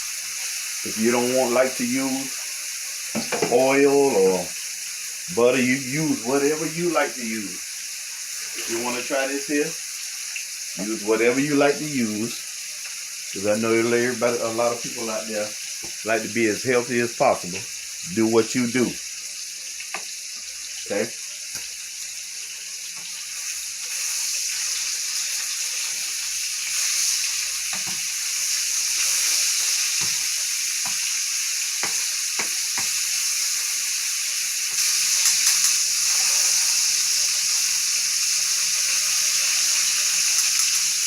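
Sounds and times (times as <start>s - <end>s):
chicken sizzling in a pan: 0.0s - 41.0s.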